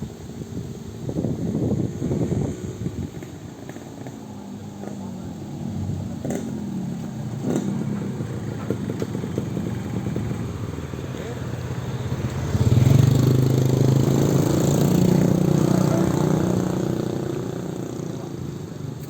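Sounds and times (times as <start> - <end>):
motorcycle engine at low revs: 0.0 - 19.0.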